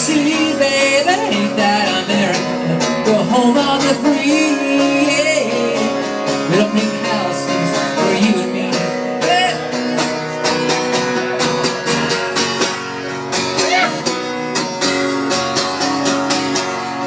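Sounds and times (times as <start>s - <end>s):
electric guitar: 0.0s - 17.0s
rock band playing: 0.0s - 17.0s.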